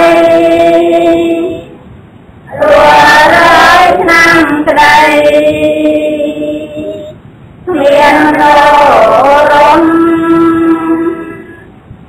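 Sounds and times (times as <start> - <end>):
voices singing long notes: 0.0 - 11.7.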